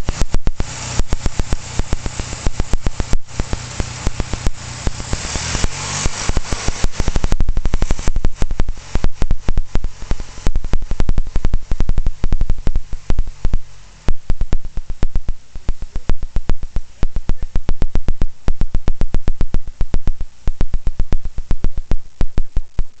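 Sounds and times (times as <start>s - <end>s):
car engine exhaust pulses: 0.0s - 23.0s
low hum: 0.0s - 23.0s.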